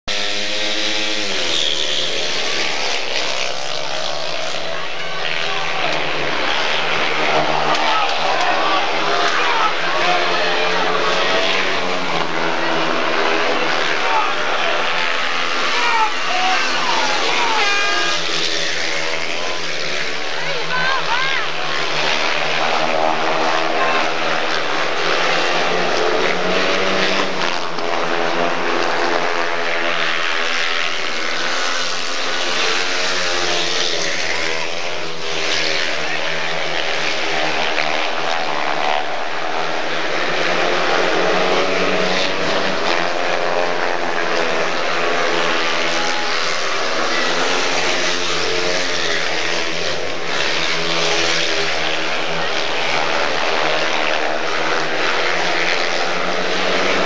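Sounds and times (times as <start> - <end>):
motorcycle engines racing: 0.0 - 57.0.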